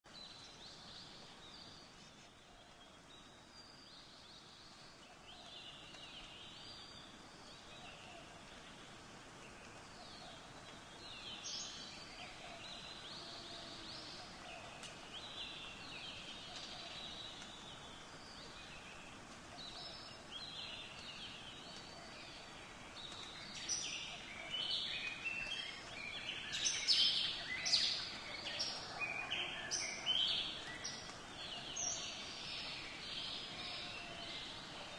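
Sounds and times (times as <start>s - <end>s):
faint outdoor hiss: 0.0s - 34.9s
birds chirping and singing: 0.1s - 34.9s.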